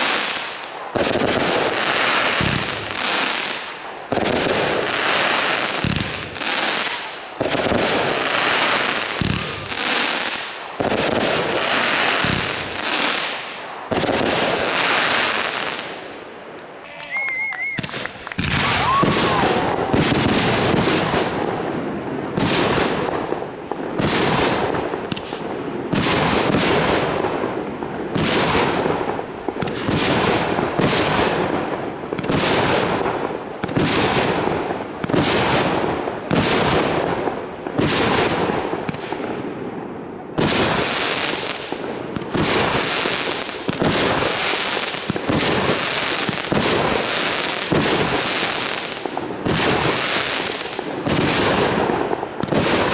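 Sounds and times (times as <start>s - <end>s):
firework bangs: 0.0s - 52.9s.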